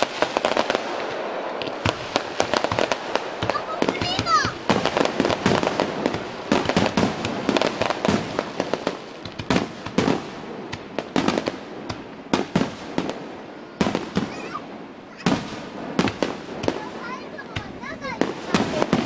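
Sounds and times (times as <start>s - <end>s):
fireworks bursting with bangs: 0.0s - 19.0s.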